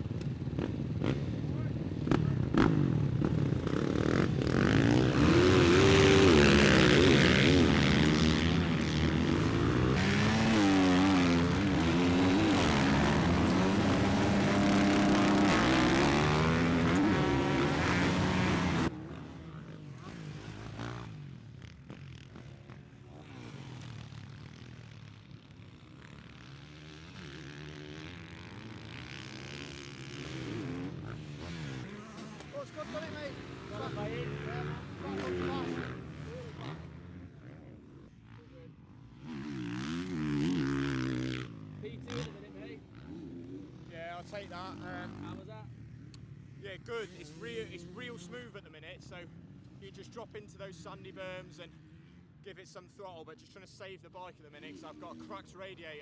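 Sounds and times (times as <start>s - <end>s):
motocross bike engine revving: 0.0s - 52.4s
faint motorcycle engine: 0.0s - 56.0s.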